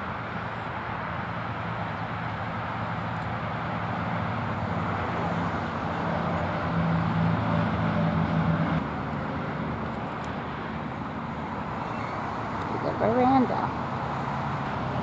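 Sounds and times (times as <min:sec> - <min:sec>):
road traffic noise: 0:00.0 - 0:15.0
vehicle engine hum: 0:00.0 - 0:15.0.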